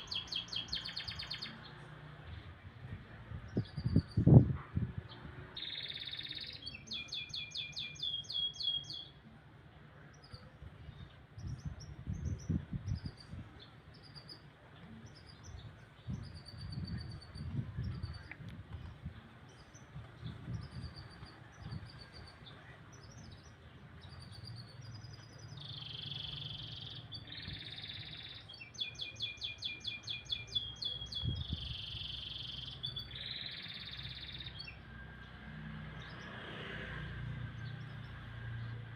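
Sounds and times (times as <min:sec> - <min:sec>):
canary singing trills: 0:00.0 - 0:01.8, 0:03.5 - 0:09.2, 0:10.1 - 0:35.4.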